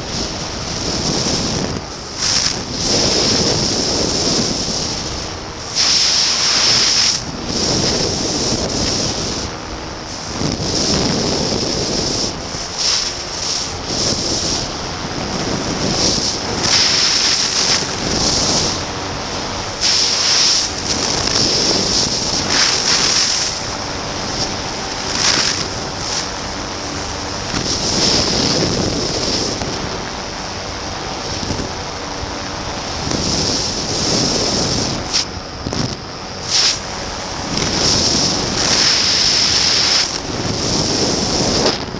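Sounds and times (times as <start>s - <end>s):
microlight engine droning: 0.0s - 41.9s
wind buffeting microphone: 0.0s - 41.9s.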